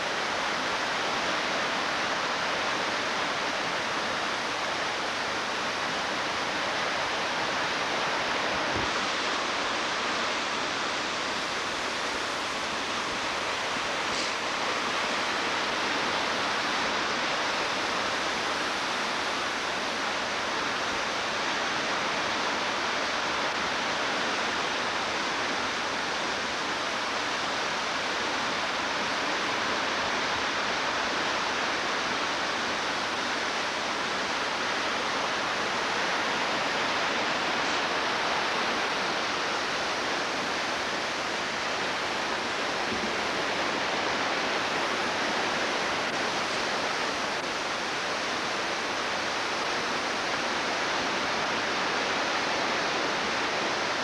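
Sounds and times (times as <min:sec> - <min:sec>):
flooded creek rushing: 0:00.0 - 0:54.0.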